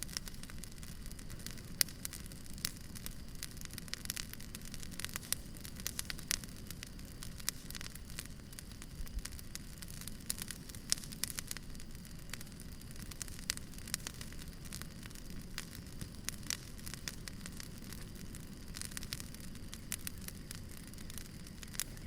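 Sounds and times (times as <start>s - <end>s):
fire rumbling and hissing: 0.0s - 22.0s
firewood crackling and popping: 0.0s - 22.0s.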